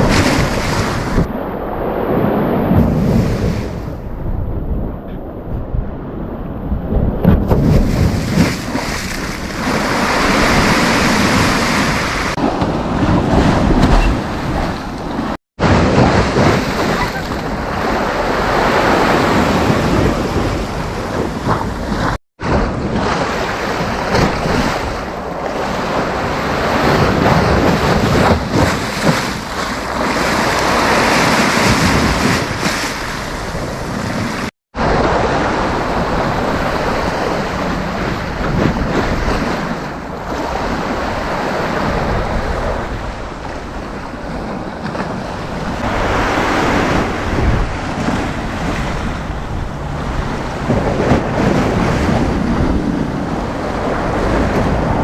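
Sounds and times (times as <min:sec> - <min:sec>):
sea waves breaking on beach: 0:00.0 - 0:04.1, 0:07.2 - 0:55.0
wind buffeting microphone: 0:00.0 - 0:55.0.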